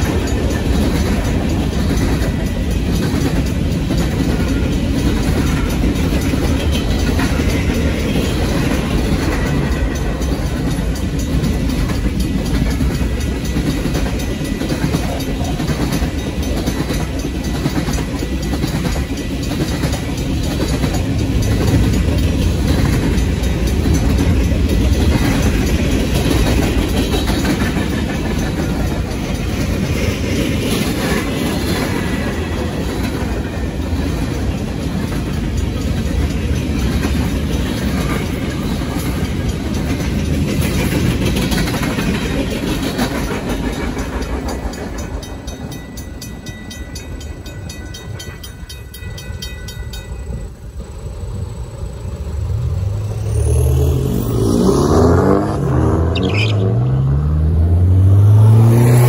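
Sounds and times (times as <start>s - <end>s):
crossing bell ringing: 0.0s - 55.1s
freight cars rumbling on rails: 0.0s - 59.0s.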